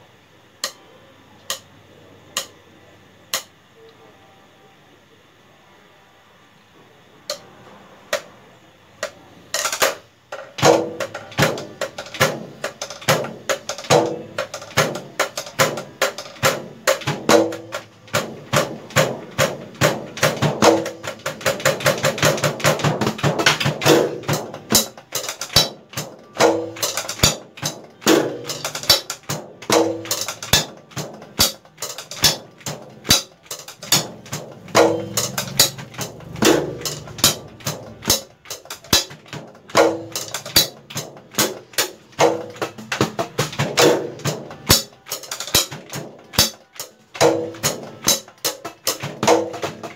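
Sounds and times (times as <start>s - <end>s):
sticks striking drum pads: 9.0s - 49.9s.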